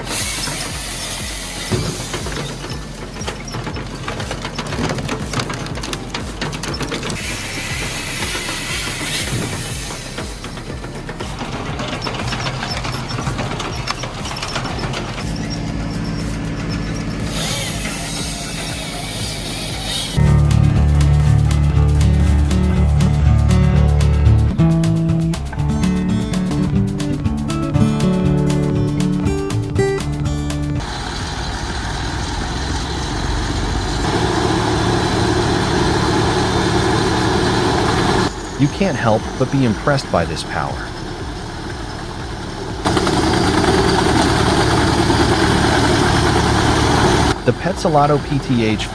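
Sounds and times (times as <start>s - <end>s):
machinery clattering and knocking: 0.0s - 24.6s, 30.8s - 48.9s
engine drone: 0.0s - 48.9s.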